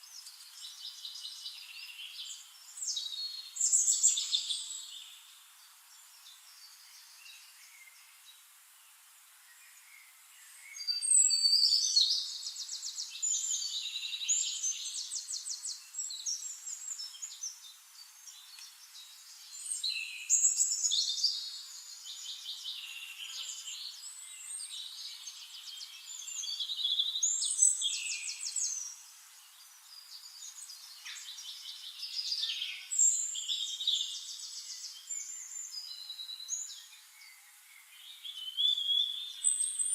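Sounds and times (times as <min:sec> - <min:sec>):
forest birds singing: 0:00.0 - 0:39.9.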